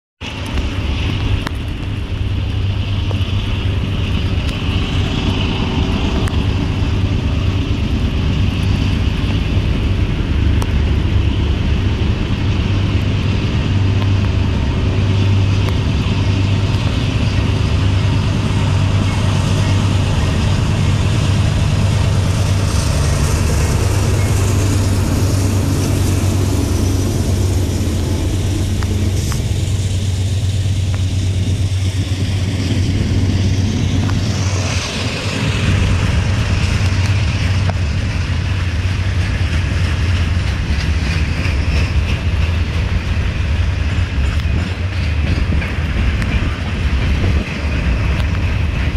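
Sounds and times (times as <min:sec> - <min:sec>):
locomotive engines droning: 0:00.2 - 0:48.9.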